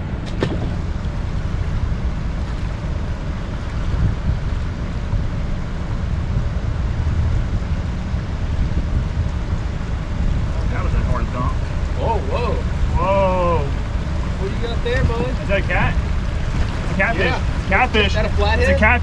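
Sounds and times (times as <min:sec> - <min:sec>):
rushing river current: 0:00.0 - 0:19.0
wind buffeting microphone: 0:00.0 - 0:19.0.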